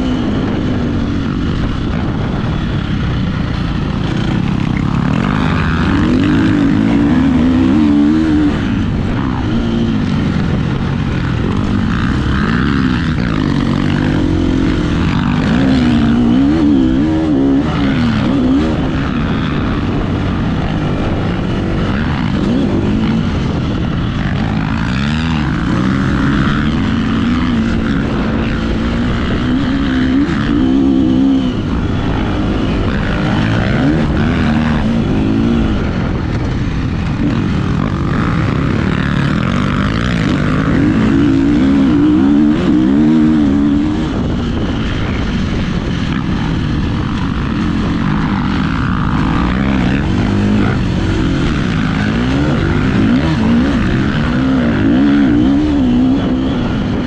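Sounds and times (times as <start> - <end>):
motorcycle engine revving: 0.0 - 57.0
wind rush on microphone: 0.0 - 57.0.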